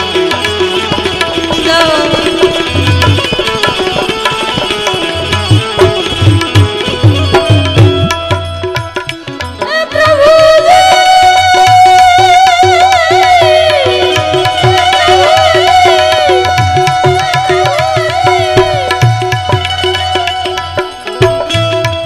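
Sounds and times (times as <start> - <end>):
fast hand drum rhythm: 0.0 - 22.0
harmonium: 0.0 - 22.0
keyed banjo: 0.0 - 22.0.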